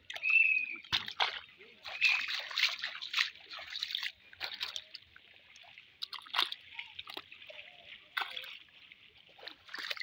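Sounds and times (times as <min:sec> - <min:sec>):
pond water sloshing and splashing: 0:00.0 - 0:10.0.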